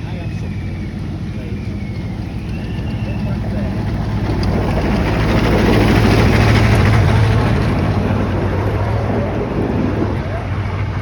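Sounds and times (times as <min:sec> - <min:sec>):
vehicle passing rumble: 0:00.0 - 0:11.0.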